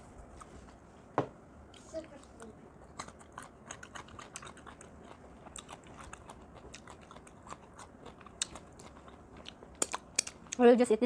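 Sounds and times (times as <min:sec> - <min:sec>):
chewing and crunching food: 0:01.7 - 0:10.8.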